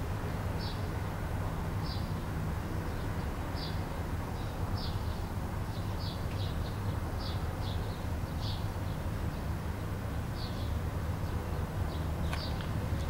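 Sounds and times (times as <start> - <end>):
small birds chirping: 0.6 - 1.0, 1.8 - 13.0.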